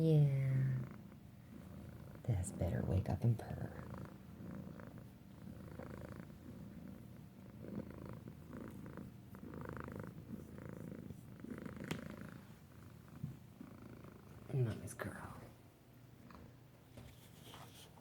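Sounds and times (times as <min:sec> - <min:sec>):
cat purring: 0:00.0 - 0:16.8.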